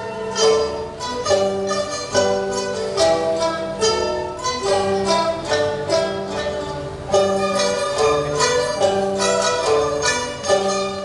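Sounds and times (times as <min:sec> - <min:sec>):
hammered dulcimer and lute notes: 0:00.0 - 0:11.0
strings holding notes: 0:00.0 - 0:11.0.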